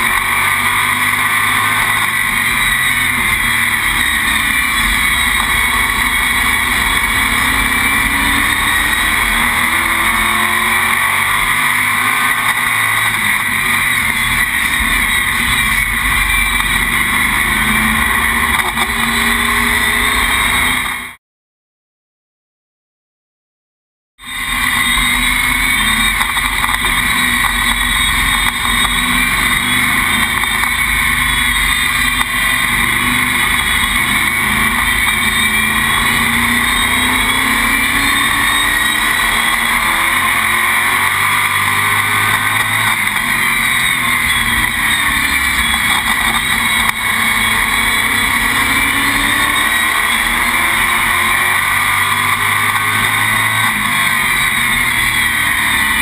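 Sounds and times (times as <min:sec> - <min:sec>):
race car engine revving: 0:00.0 - 0:21.2, 0:24.2 - 0:56.0.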